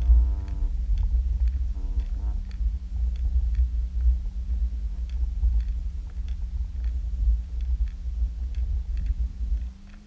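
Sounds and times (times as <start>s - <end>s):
faint clicks: 0.0s - 10.0s
steady low hum: 0.0s - 10.0s
underwater rumble of moving water: 0.0s - 10.0s.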